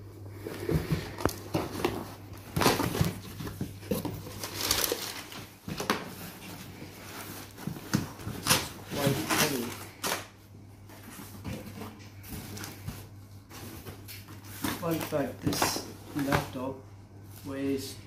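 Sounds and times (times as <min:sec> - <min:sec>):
steady low hum: 0:00.0 - 0:18.0
packing paper rustling: 0:00.4 - 0:16.6.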